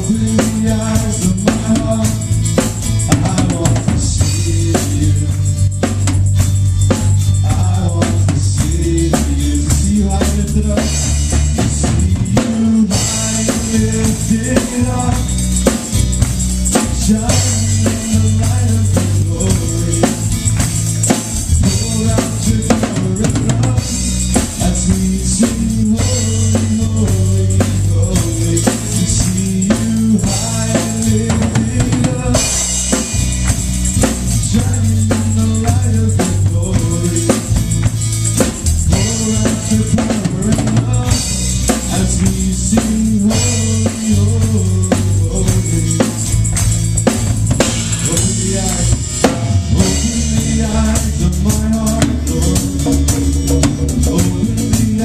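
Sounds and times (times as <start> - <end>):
drum kit beat: 0.0 - 55.0
sustained bass notes: 0.0 - 55.0.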